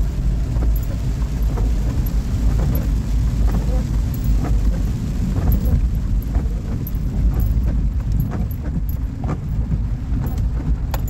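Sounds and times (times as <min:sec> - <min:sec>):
road and engine rumble: 0:00.0 - 0:11.0
light ticks: 0:00.6 - 0:11.0.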